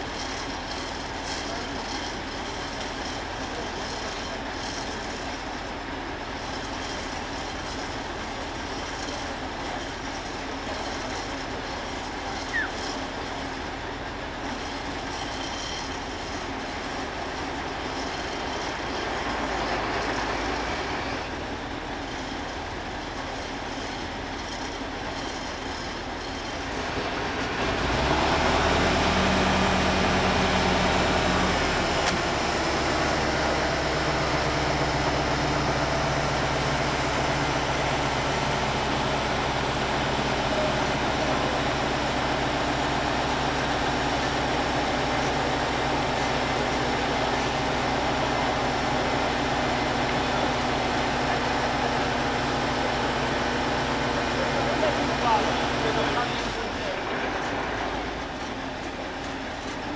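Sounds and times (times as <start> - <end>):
diesel engine rumbling: 0.0 - 59.9.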